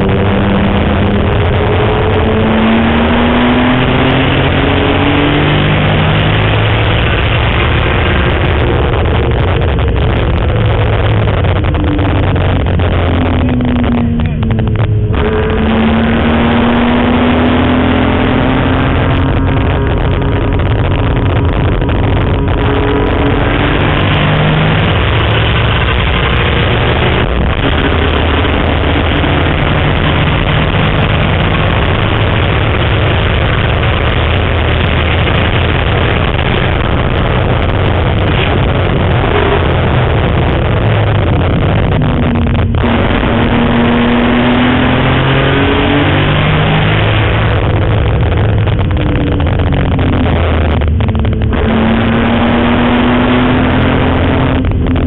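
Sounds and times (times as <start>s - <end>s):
race car engine under load: 0.0s - 55.0s
wind noise: 0.0s - 55.0s.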